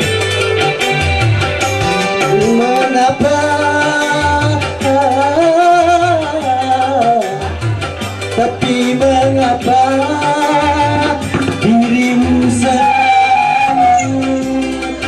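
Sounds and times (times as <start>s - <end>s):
bass line and drum beat: 0.0s - 15.0s
electronic keyboard melody: 0.0s - 15.0s.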